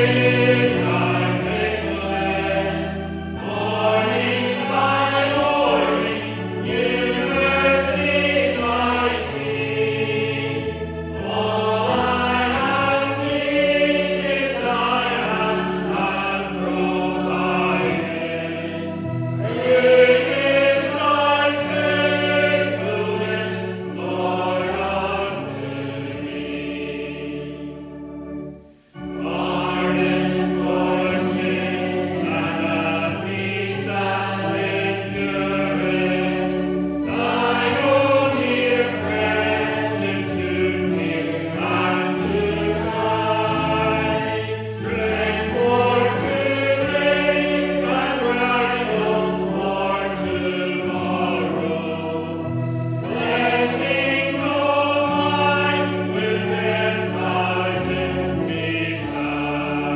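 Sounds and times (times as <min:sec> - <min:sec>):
congregation singing a hymn: 0:00.0 - 0:59.9
sustained chordal accompaniment: 0:00.0 - 0:59.9.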